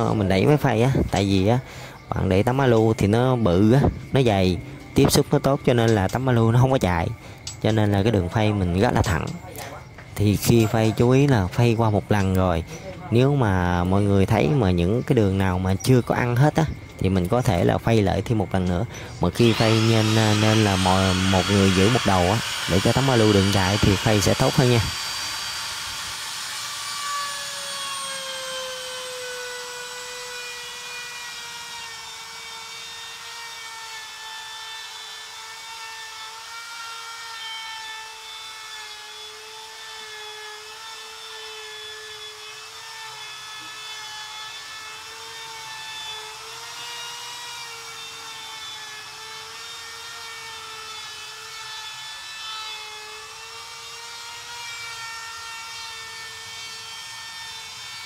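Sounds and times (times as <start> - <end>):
electric router whining: 8.6 - 58.0.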